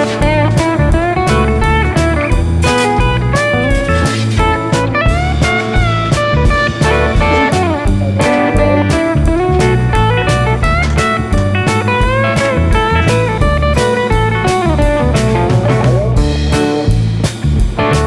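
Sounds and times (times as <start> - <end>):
bass line: 0.0 - 18.0
blues electric guitar: 0.0 - 18.0
steady drum beat: 0.0 - 18.0.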